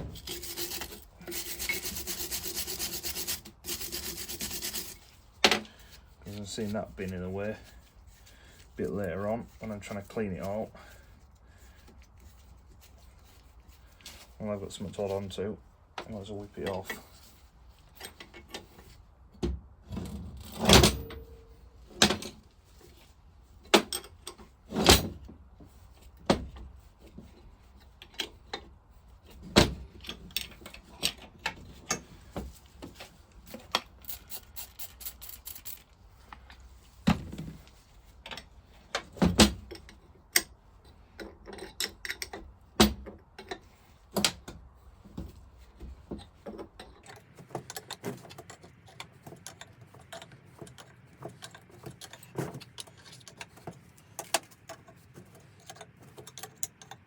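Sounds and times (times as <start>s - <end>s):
hand tools and metal parts clinking: 0.0s - 19.0s, 19.9s - 57.0s.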